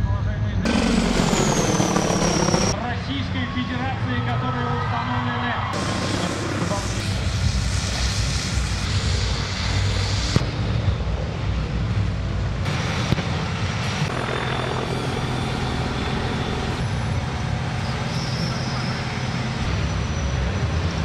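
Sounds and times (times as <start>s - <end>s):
heavy vehicle engines droning: 0.0s - 21.0s.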